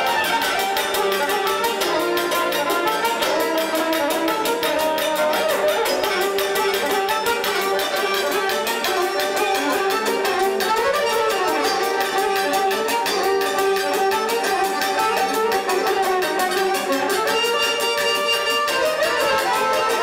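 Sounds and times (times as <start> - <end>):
fast folk dance music with violin: 0.0 - 20.0.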